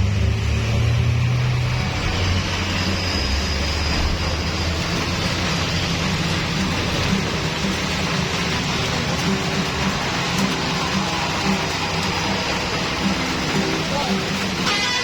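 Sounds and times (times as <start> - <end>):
heavy truck engine droning: 0.0 - 15.0
road noise: 0.0 - 15.0.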